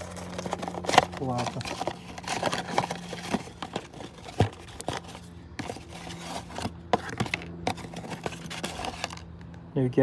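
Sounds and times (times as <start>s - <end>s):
cardboard and packaging rustling: 0.0s - 9.3s.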